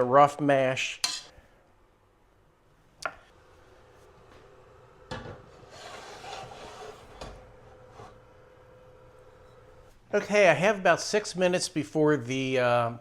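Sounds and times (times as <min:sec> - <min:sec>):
faint steady hum: 0:00.1 - 0:11.3.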